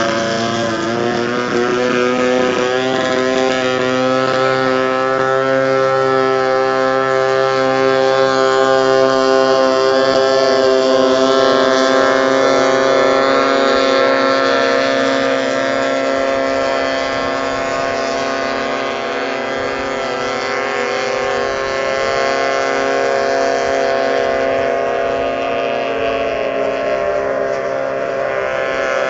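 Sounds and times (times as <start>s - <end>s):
outboard motor high revs: 0.0s - 29.0s
second engine pitch rising and falling: 0.0s - 29.0s.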